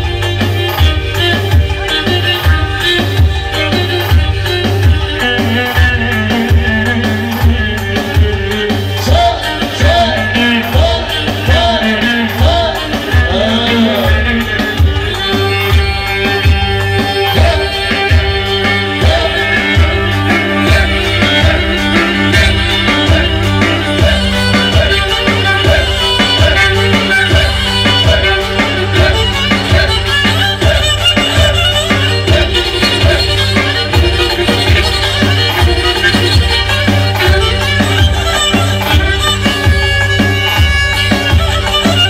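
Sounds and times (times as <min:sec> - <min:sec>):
heavy steady drum beat: 0:00.0 - 0:42.0
live band dance music: 0:00.0 - 0:42.0
violin: 0:00.0 - 0:42.0.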